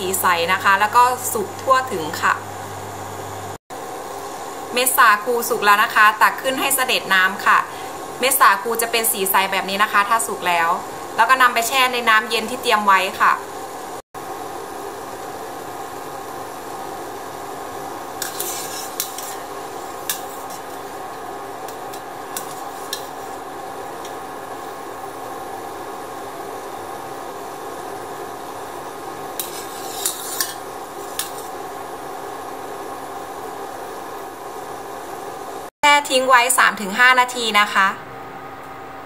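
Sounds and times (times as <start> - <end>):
water boiling in a pot: 0.0 - 35.7.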